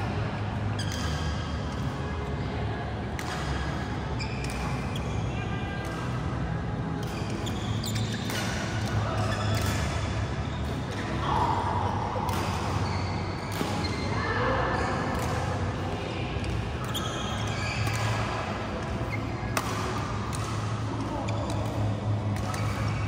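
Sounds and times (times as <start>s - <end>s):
rackets hitting shuttlecock: 0.1s - 2.0s, 3.0s - 5.1s, 7.0s - 14.2s, 15.0s - 23.0s.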